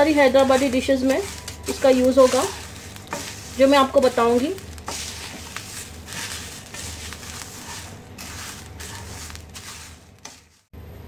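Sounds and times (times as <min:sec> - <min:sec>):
spatula scraping spices in pan: 0:00.0 - 0:10.7
spices crackling: 0:00.0 - 0:10.7.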